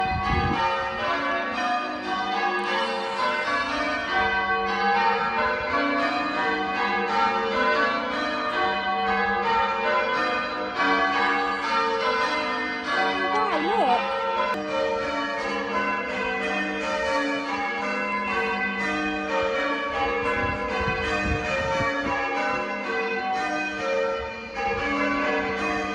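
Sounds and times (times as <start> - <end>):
church bells ringing: 0.0 - 25.9.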